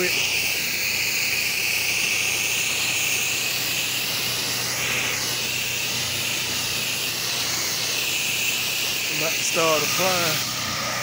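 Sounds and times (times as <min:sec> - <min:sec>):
pressure washer spraying water: 0:00.0 - 0:11.0.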